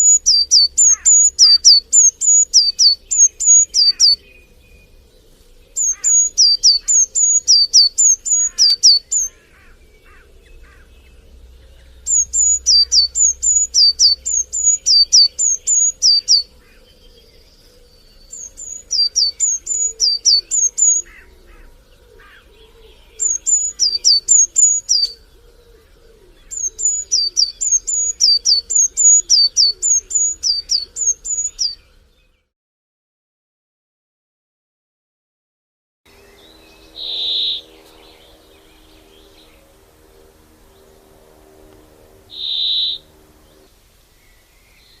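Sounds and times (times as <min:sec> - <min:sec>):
faint bird chirps: 0:00.0 - 0:32.5, 0:36.2 - 0:39.8, 0:42.3 - 0:45.0
songbird singing: 0:00.0 - 0:32.5, 0:36.1 - 0:45.0.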